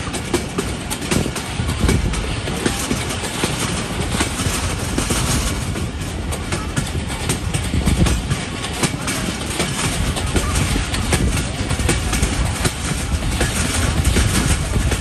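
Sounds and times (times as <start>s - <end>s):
train wheels rumbling on rails: 0.0s - 15.0s
wheel clicks and knocks: 0.0s - 15.0s.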